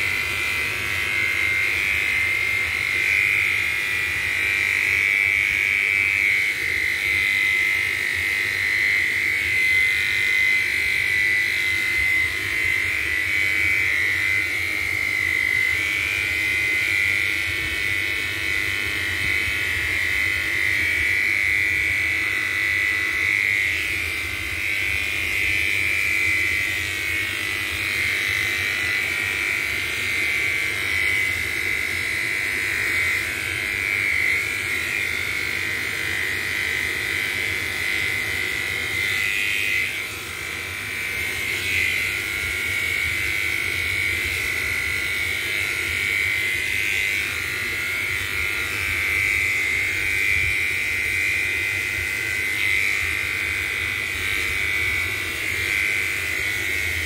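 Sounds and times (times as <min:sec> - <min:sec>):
electric clippers buzzing: 0:00.0 - 0:57.0.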